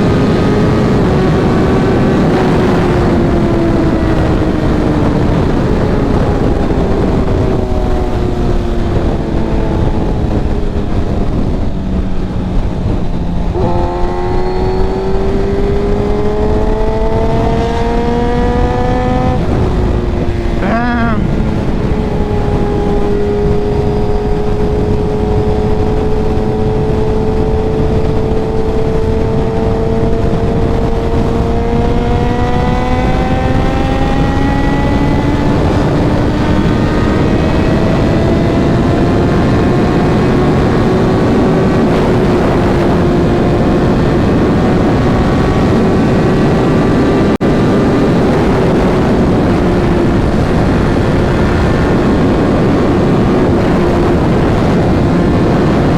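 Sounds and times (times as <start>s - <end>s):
motorcycle engine: 0.0s - 55.9s
wind and road noise: 0.0s - 55.9s.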